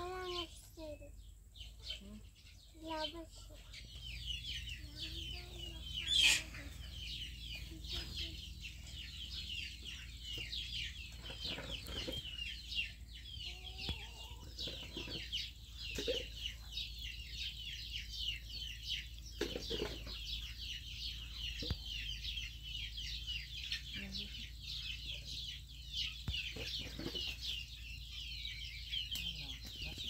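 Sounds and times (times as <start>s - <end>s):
many birds cheeping: 0.0s - 30.0s.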